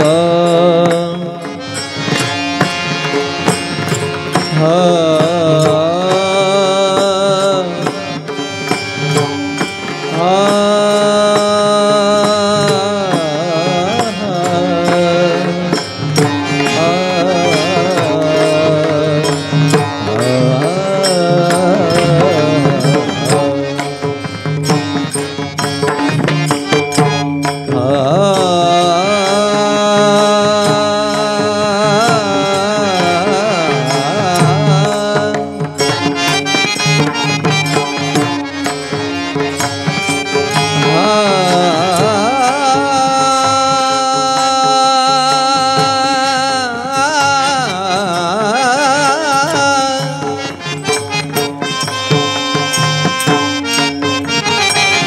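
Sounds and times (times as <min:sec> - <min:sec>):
hand drum: 0:00.0 - 0:55.0
man singing devotional melody: 0:00.0 - 0:55.0.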